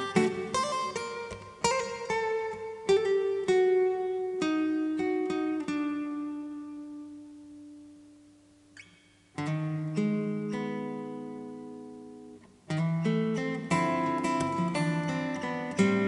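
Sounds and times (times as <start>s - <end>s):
fingerstyle acoustic guitar: 0.0s - 16.0s.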